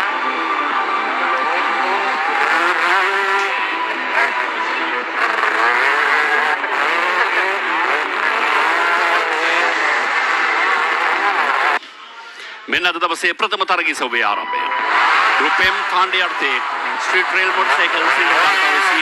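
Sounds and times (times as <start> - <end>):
motorcycles racing and revving: 0.0 - 11.9, 14.6 - 19.0.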